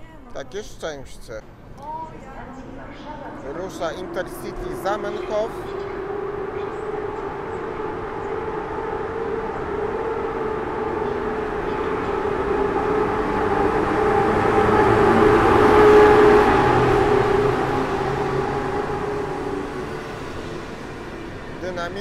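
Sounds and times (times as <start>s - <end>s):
train rumble: 0.0s - 22.0s
electric locomotive whining hum: 0.8s - 22.0s.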